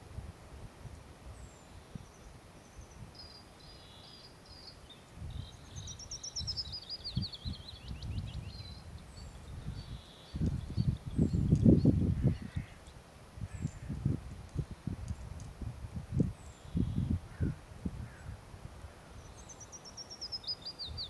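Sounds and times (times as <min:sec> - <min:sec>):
songbird singing: 0:00.9 - 0:21.0.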